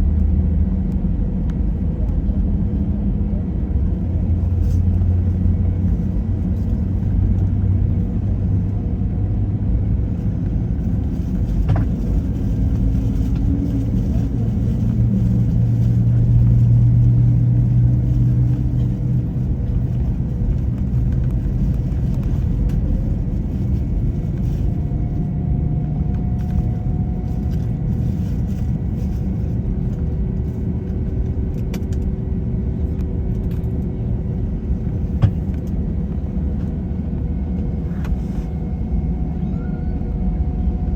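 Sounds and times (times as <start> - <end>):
faint engine tones: 0.0 - 40.9
jet engine cabin rumble: 0.0 - 40.9.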